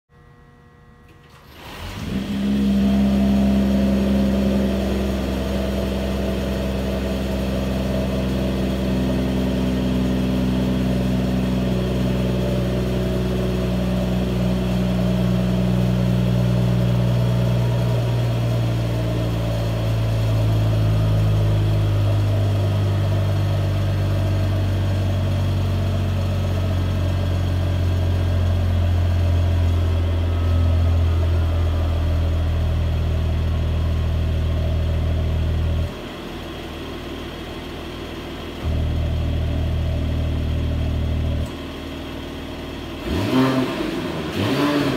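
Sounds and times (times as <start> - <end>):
car exhaust idling fast: 2.2 - 43.0.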